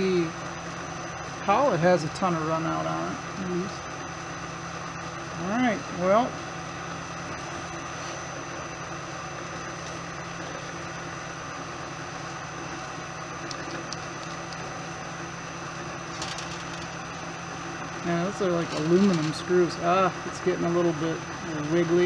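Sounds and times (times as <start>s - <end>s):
milling machine spindle humming: 0.0s - 22.0s.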